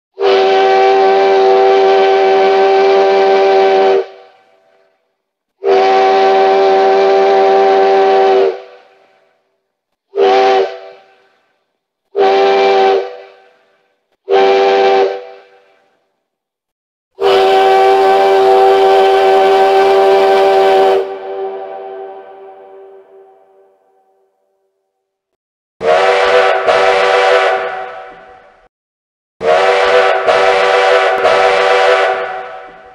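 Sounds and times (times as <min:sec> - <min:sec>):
steam locomotive whistle: 0:00.2 - 0:04.9, 0:05.6 - 0:09.3, 0:10.1 - 0:11.5, 0:12.1 - 0:16.0, 0:17.2 - 0:24.1, 0:25.8 - 0:28.7, 0:29.4 - 0:32.9.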